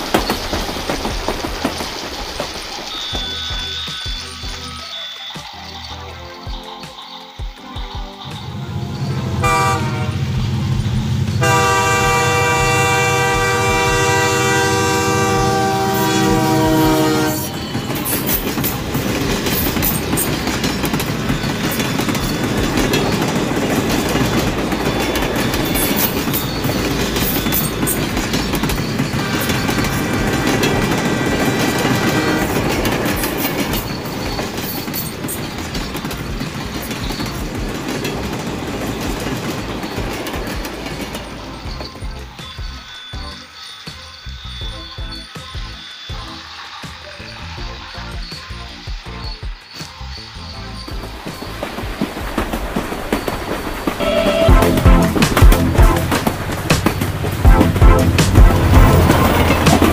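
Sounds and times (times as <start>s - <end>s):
toy train clatter and motor: 0.0s - 8.6s, 9.4s - 59.9s
toy train horn: 2.8s - 6.5s, 8.2s - 10.6s, 11.4s - 37.5s, 38.8s - 51.6s, 53.9s - 59.9s.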